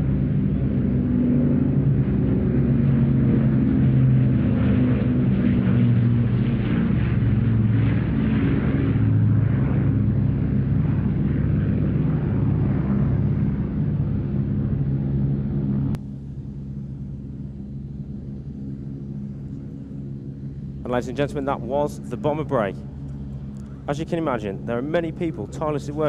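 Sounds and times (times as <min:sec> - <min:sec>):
piston aircraft engines droning: 0:00.0 - 0:26.0.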